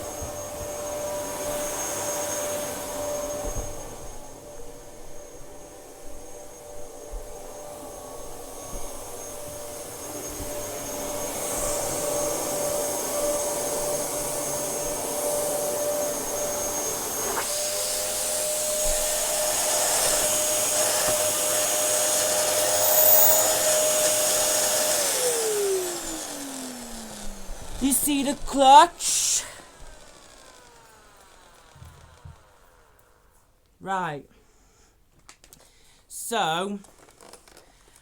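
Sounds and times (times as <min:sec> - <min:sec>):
vacuum cleaner motor whine: 0:00.0 - 0:33.6.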